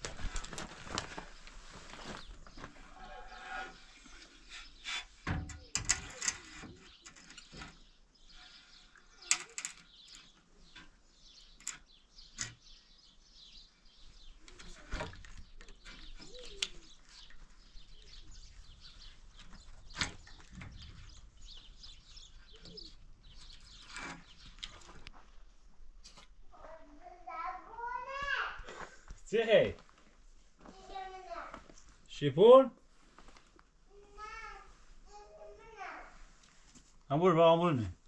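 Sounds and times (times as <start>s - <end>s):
small birds chirping: 0.0s - 29.8s, 30.7s - 38.0s.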